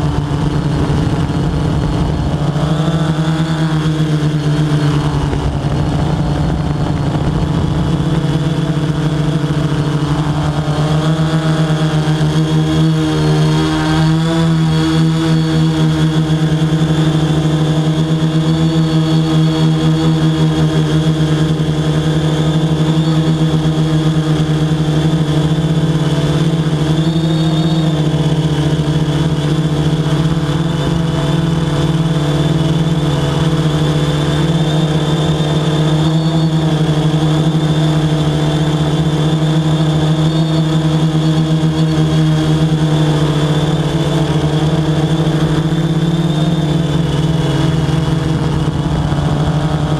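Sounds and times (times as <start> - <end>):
drone propellers humming: 0.0 - 49.9.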